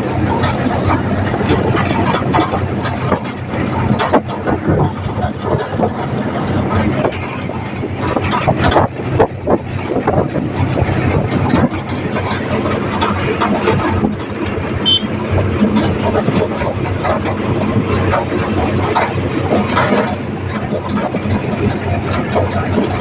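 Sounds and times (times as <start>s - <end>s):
rattling and knocking: 0.0s - 23.0s
tractor engine running: 0.0s - 23.0s.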